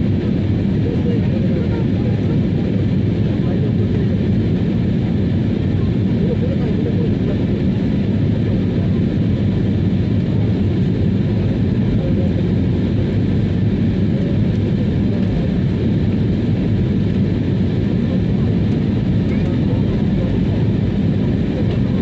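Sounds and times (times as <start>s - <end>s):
jet engines rumbling in cabin: 0.0s - 22.0s.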